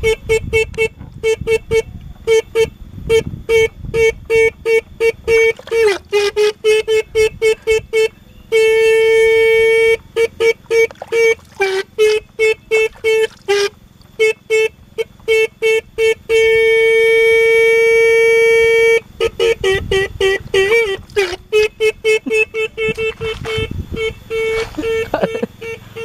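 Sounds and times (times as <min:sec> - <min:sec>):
motorcycle horn honking: 0:00.0 - 0:26.0.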